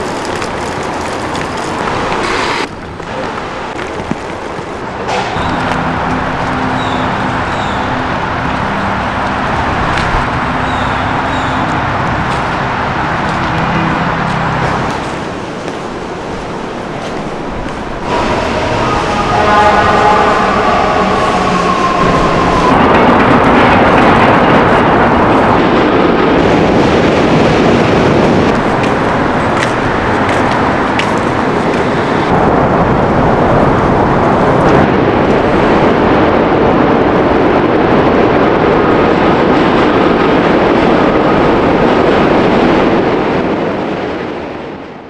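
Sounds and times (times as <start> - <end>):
moving vehicle rumble: 0.0 - 37.1.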